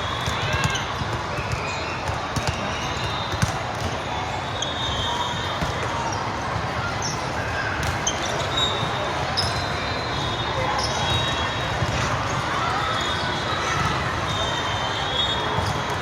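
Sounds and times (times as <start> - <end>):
spectator chatter: 0.0 - 16.0.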